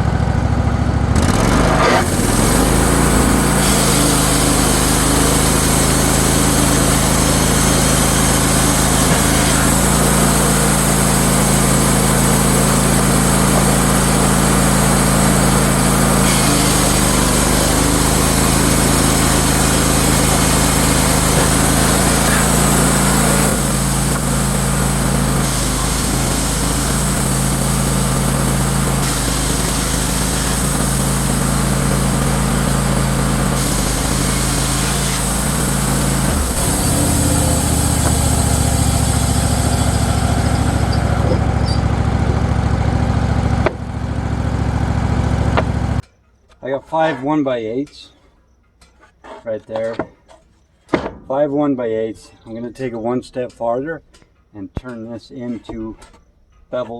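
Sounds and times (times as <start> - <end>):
band sawmill sawing lumber: 0.0 - 46.0.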